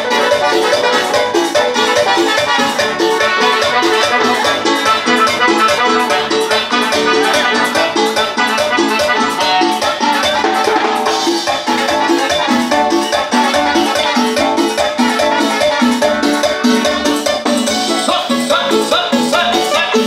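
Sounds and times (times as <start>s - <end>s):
live band dance music: 0.0s - 20.0s.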